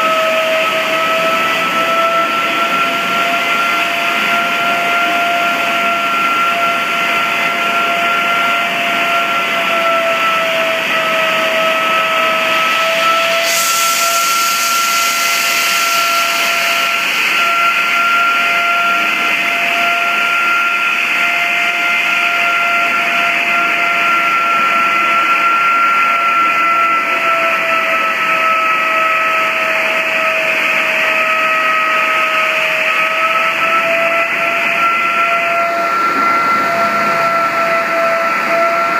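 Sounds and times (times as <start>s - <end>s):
blasting machine hiss and whine: 0.0s - 38.9s.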